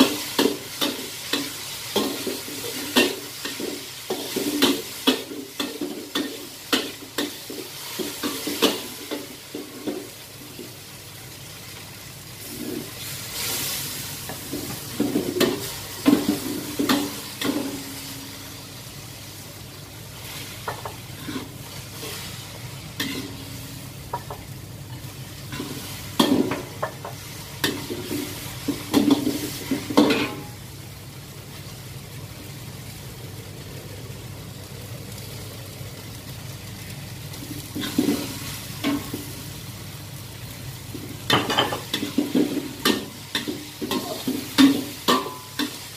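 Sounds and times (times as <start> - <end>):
noodles sizzling: 0.0 - 45.9.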